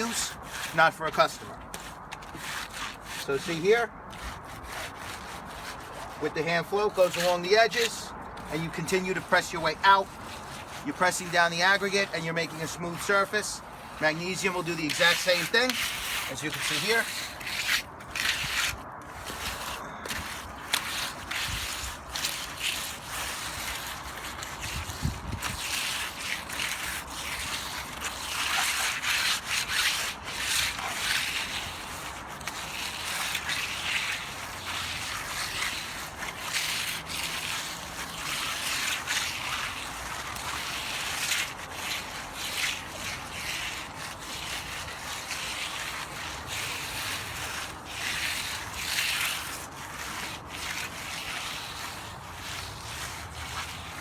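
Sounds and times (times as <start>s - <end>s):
hand float scraping wet concrete: 0.0s - 54.0s.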